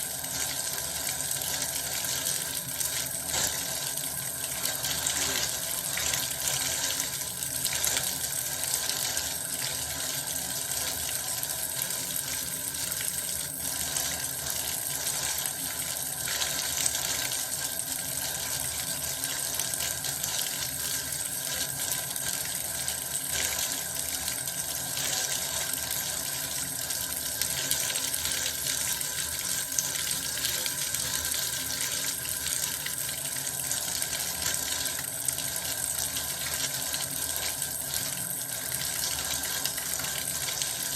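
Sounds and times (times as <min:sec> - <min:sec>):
tap running into a bath: 0:00.0 - 0:40.9.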